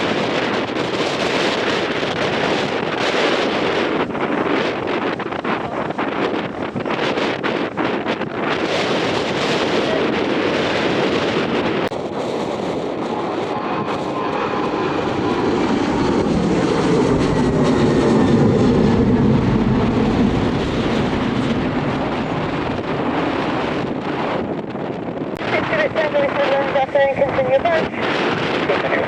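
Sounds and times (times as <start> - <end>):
aircraft engines roaring: 0.0 - 29.0
wind buffeting microphone: 0.0 - 29.0.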